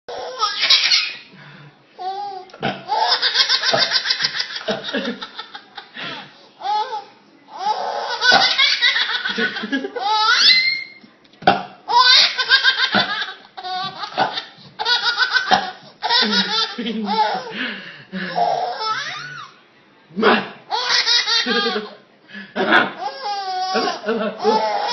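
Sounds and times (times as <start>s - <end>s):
baby giggling: 0.1s - 1.3s, 2.0s - 10.8s, 11.9s - 17.6s, 18.2s - 19.6s, 20.7s - 22.0s, 22.6s - 24.9s.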